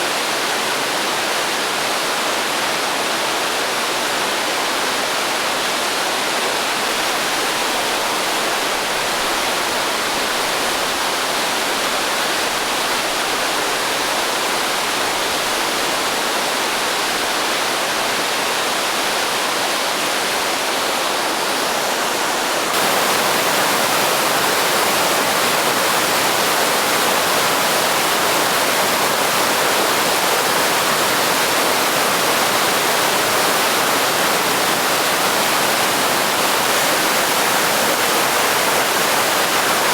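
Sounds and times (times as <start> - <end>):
waterfall rushing: 1.8 - 39.9.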